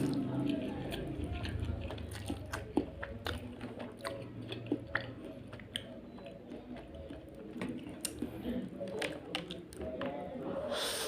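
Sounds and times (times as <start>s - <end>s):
person chewing crispy noodles: 0.0s - 10.0s.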